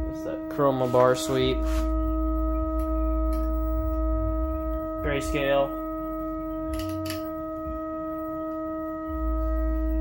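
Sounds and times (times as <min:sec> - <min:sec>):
electronic test tone: 0:00.0 - 0:10.0
low hum: 0:00.0 - 0:10.0.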